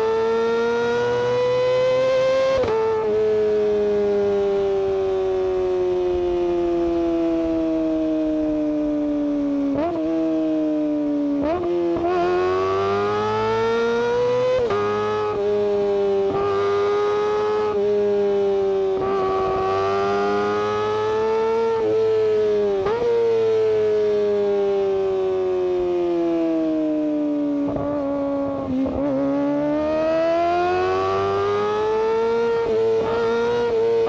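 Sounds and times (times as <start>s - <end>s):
motorcycle engine at high revs: 0.0s - 34.0s.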